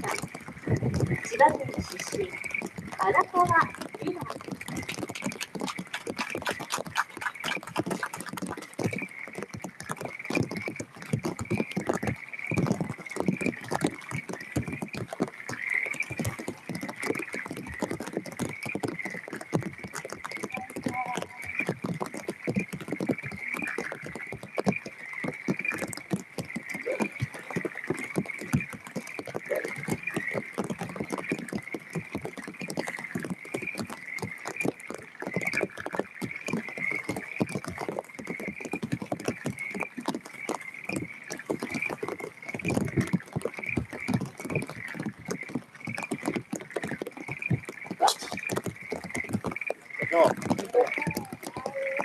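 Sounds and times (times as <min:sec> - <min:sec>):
dense crackle: 0:00.0 - 0:52.0
frogs calling: 0:00.0 - 0:52.0.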